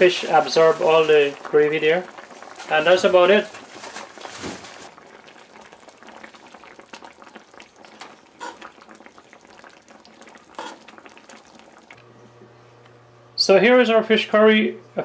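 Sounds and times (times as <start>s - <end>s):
gravy bubbling in a pan: 0.0s - 12.1s.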